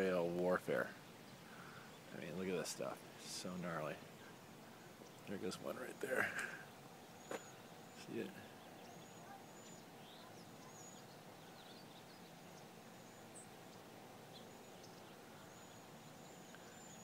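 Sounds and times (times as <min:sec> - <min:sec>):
faint background hiss: 0:00.0 - 0:17.0
faint bird chirps: 0:00.7 - 0:17.0.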